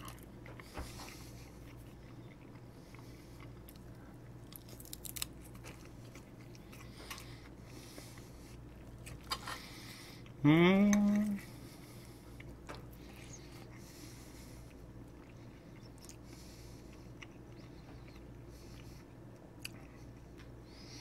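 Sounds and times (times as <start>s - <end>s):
chewing and mouth sounds: 0.0s - 20.6s
low steady room hum: 0.0s - 21.0s.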